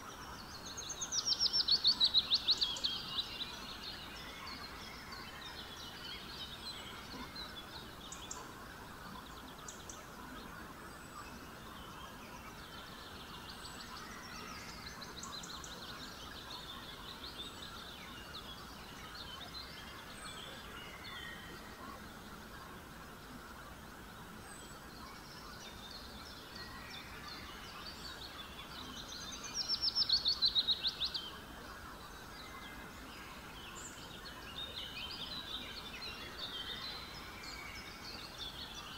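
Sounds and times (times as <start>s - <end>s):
faint background noise: 0.0s - 38.9s
small birds chirping: 0.0s - 38.9s.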